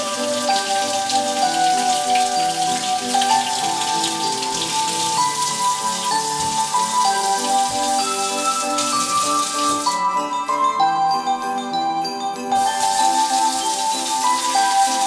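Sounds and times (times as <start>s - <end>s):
faucet water splashing: 0.0s - 10.0s, 12.5s - 15.0s
soft background music: 0.0s - 15.0s.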